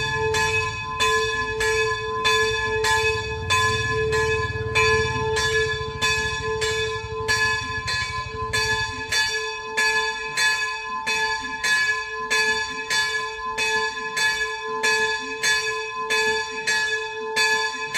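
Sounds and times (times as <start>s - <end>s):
church bell ringing: 0.0s - 17.9s.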